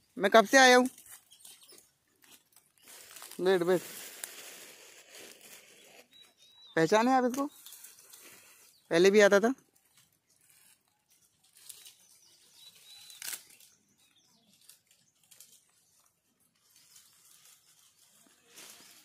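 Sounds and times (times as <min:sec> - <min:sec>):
dry leaves rustling: 0:00.0 - 0:19.0.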